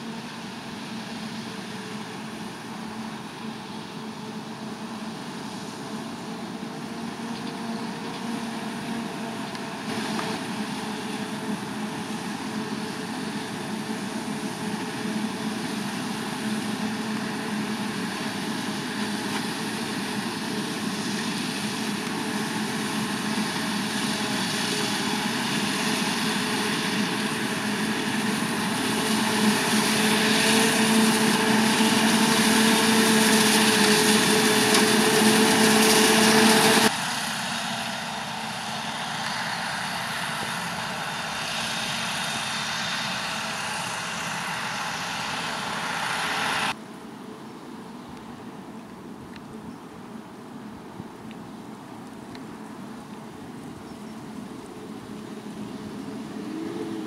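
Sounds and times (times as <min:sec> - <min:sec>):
forage harvester mechanical drone: 0:00.0 - 0:57.0.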